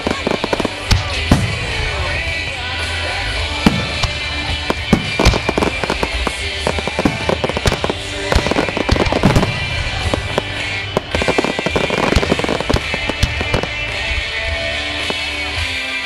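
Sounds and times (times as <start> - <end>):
fireworks bursting with bangs: 0.0 - 16.0
fireworks crackling: 0.0 - 16.0.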